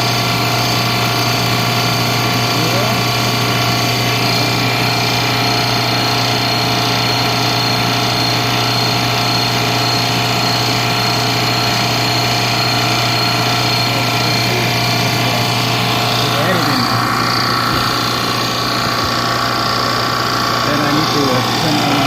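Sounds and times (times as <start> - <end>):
recovery machine humming: 0.0 - 22.0.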